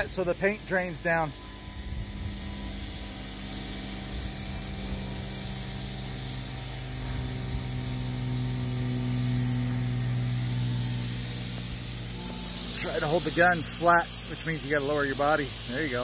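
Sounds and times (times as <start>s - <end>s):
low hum: 0.0s - 15.8s
spray gun hissing: 0.0s - 16.0s.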